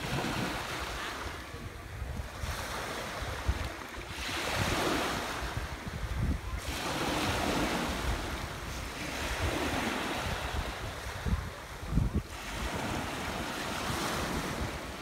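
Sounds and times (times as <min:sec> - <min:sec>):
waves washing on pebble beach: 0:00.0 - 0:15.0
wind buffeting microphone: 0:00.0 - 0:15.0.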